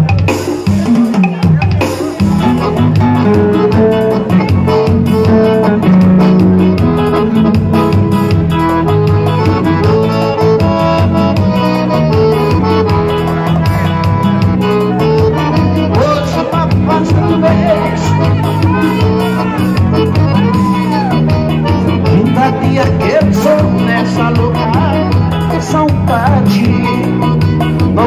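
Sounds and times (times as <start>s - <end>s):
electronic keyboard music: 0.0s - 28.0s.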